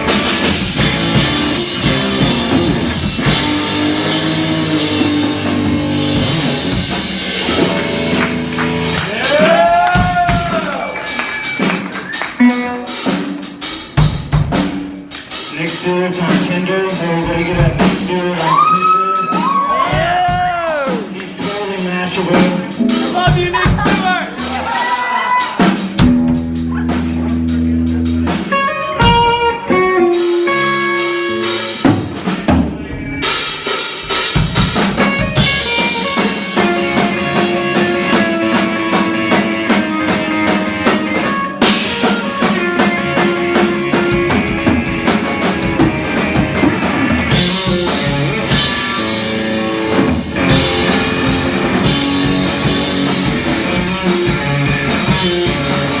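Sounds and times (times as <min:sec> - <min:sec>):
electric guitar: 0:00.0 - 0:33.6, 0:34.2 - 0:56.0
drum kit: 0:00.0 - 0:56.0
live rock band playing: 0:00.0 - 0:56.0.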